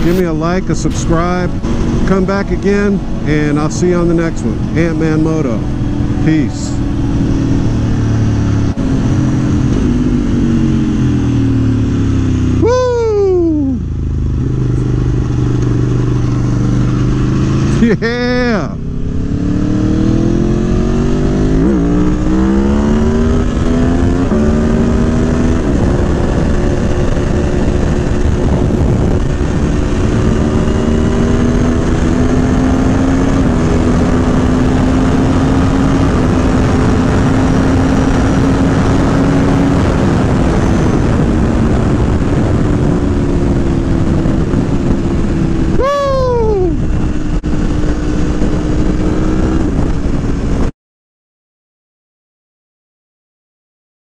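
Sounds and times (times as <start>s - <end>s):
motorcycle engine shifting gears: 0.8s - 12.7s, 13.6s - 18.0s, 18.8s - 45.8s, 46.8s - 50.7s.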